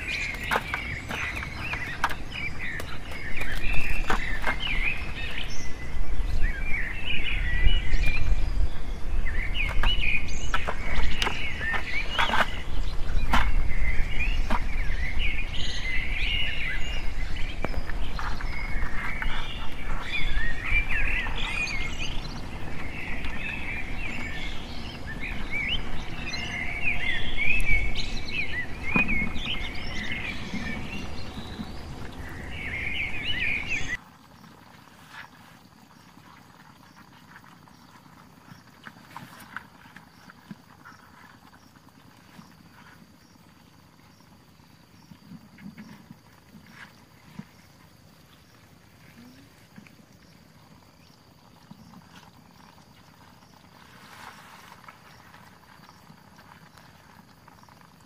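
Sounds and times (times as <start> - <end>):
small birds chirping: 0.0 - 34.6, 35.6 - 54.0.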